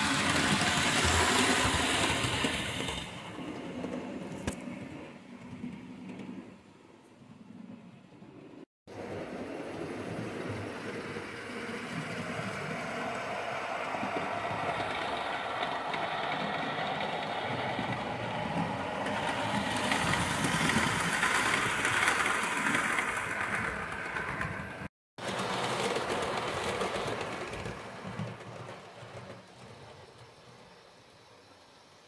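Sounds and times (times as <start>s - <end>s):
model train rattling on track: 0.0s - 6.5s, 9.0s - 32.0s.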